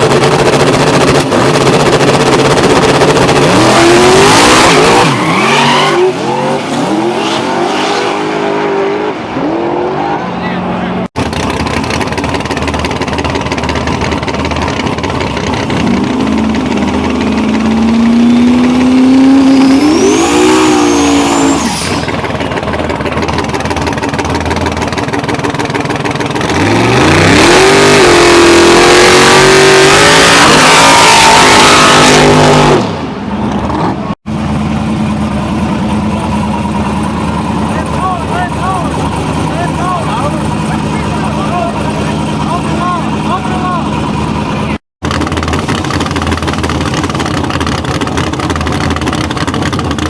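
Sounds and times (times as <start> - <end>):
race car engine revving: 0.0 - 50.0.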